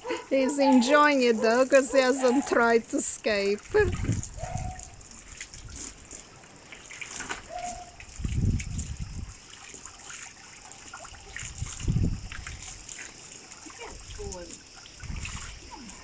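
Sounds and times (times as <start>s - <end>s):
water splashing over dog: 0.0s - 16.0s.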